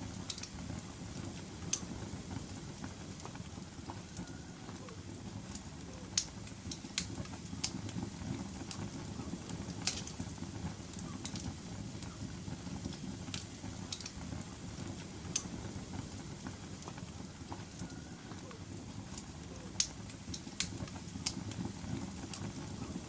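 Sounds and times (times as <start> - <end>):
fire flames rushing: 0.0 - 23.0
wood fire crackling and popping: 0.0 - 23.0.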